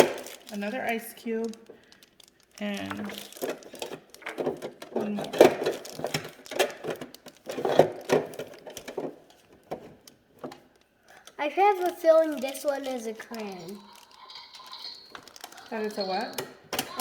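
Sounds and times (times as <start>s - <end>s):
plastic packaging crinkling: 0.0s - 17.0s
plastic pieces clicking: 0.0s - 17.0s.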